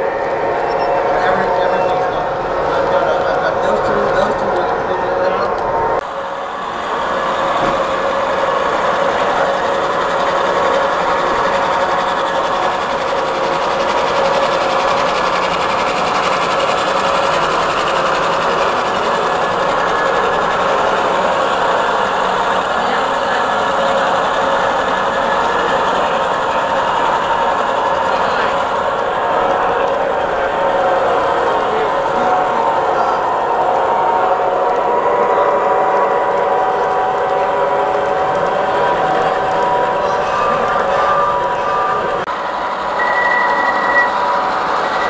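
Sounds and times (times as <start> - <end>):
model train motors whirring: 0.0 - 45.0
train wheel noise: 0.0 - 45.0.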